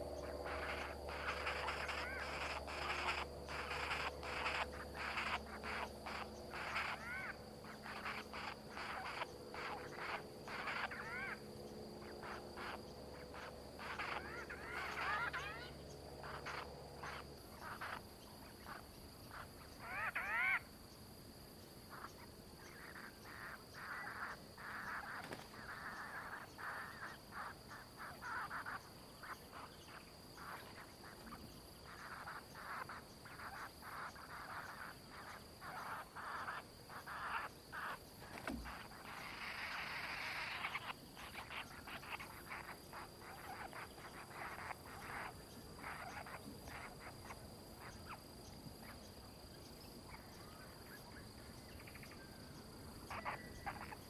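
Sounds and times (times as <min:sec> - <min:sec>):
steady high-pitched whine: 0:00.0 - 0:54.0.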